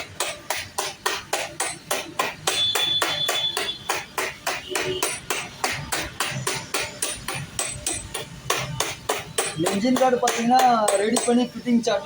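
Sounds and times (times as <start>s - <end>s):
hammer striking sheet metal: 0.0s - 11.8s.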